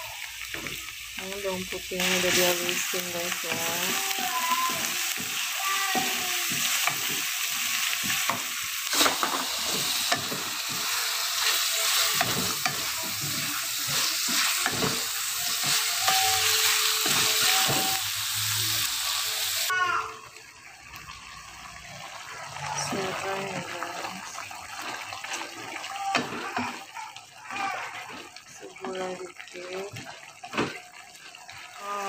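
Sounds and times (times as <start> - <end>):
onion and garlic sizzling in oil: 0.0 - 32.0.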